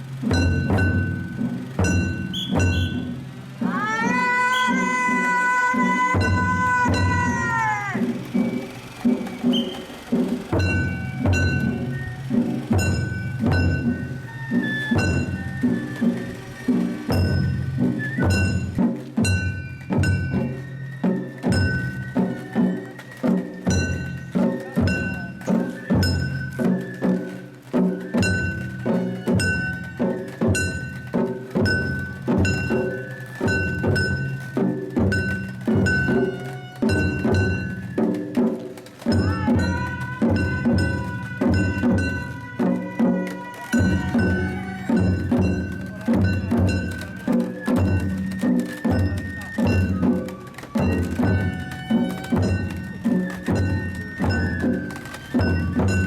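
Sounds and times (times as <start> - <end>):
taiko drums: 0.0 - 56.0
bamboo flute high notes: 2.0 - 56.0.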